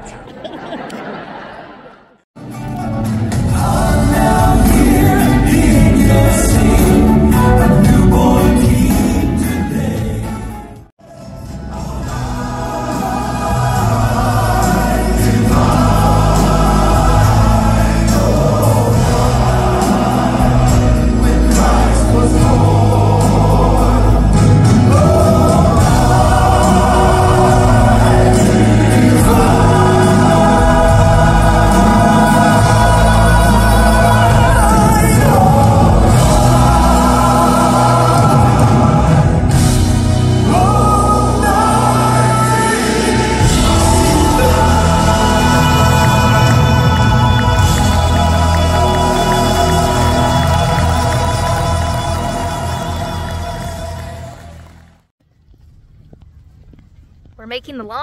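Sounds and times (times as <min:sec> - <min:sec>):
band with drums and heavy bass: 0:02.4 - 0:54.3
choir singing gospel in harmony: 0:03.2 - 0:55.0.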